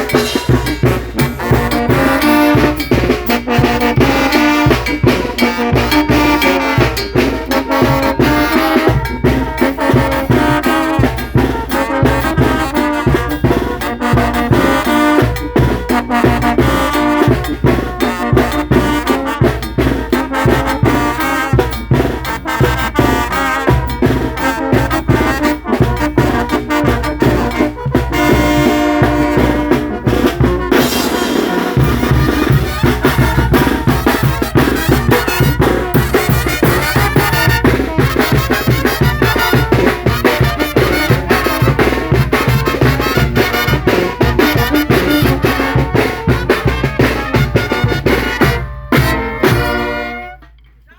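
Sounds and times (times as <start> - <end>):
steady drum beat: 0.0 - 50.4
trumpets and trombones: 0.0 - 50.9.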